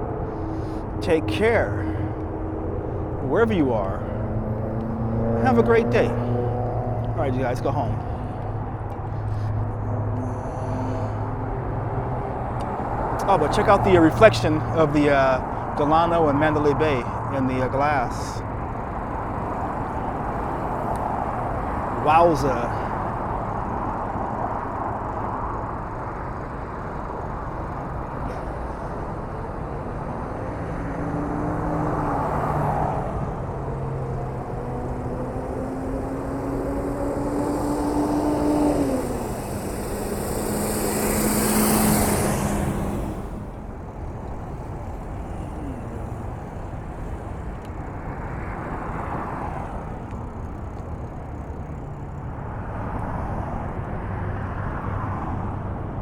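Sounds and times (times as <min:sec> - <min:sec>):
steady traffic rumble: 0:00.0 - 0:56.0
vehicle passing with hiss: 0:00.0 - 0:56.0
vehicles pulling away: 0:00.0 - 0:56.0.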